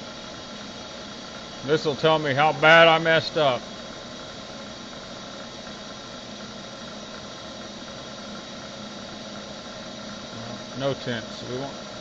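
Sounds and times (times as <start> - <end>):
shop machinery hum and hiss: 0.0 - 12.0.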